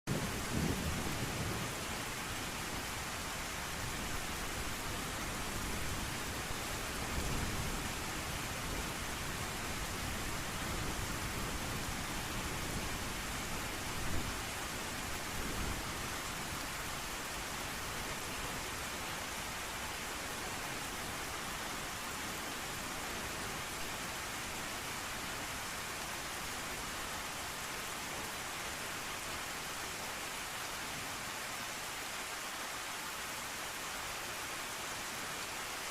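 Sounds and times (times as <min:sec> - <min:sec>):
heavy rain hiss: 0:00.1 - 0:35.9.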